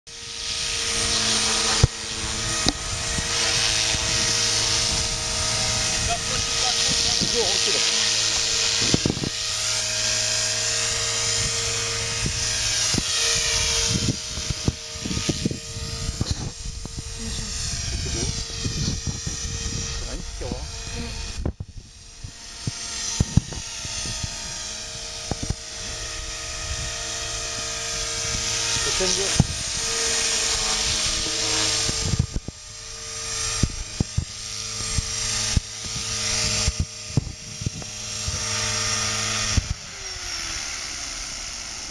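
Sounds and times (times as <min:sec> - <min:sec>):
electric motor whine: 0:00.1 - 0:41.9.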